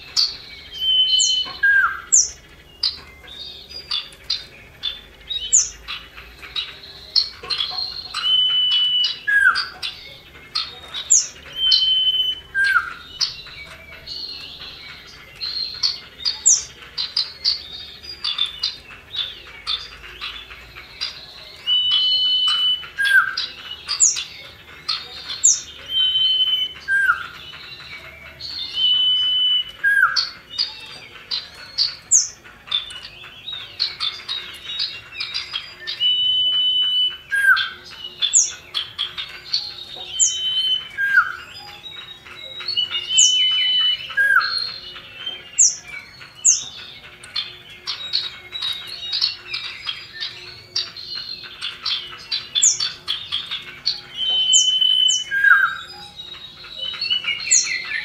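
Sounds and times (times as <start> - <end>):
bird whistling and twittering: 0.0 - 58.0.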